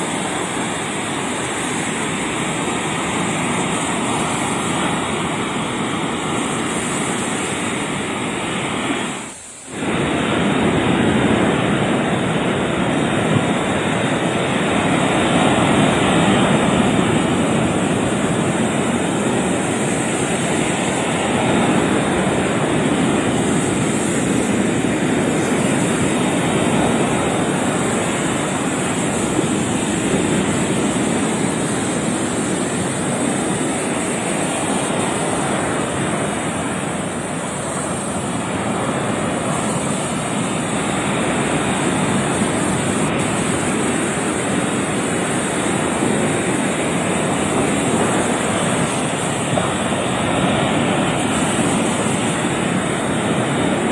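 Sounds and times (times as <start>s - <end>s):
ocean surf breaking: 0.0s - 53.9s.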